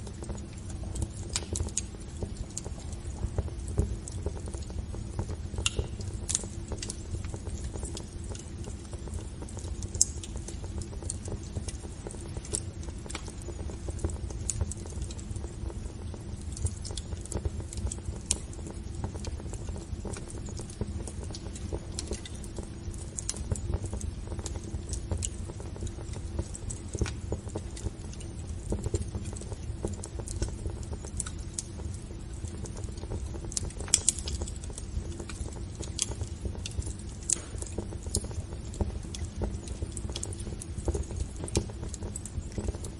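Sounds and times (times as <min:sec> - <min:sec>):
low fire rumble: 0:00.0 - 0:42.9
wood fire crackling and popping: 0:00.0 - 0:42.9.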